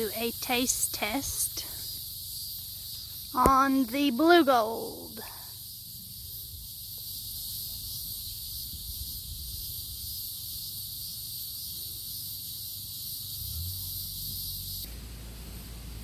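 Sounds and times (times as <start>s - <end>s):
high-pitched insect chorus: 0.0s - 15.8s.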